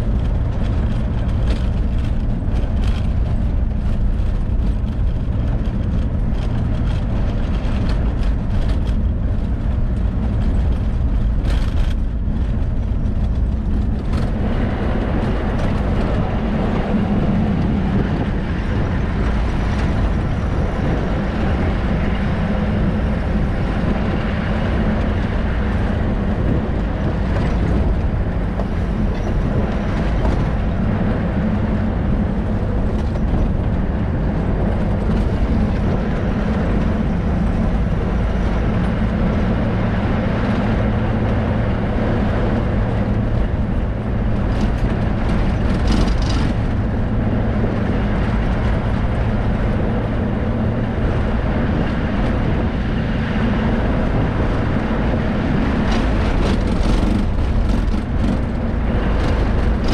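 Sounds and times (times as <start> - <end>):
road and wind noise: 0.0 - 59.9
vehicle engine hum: 0.0 - 59.9
vehicle rattles: 0.0 - 59.9.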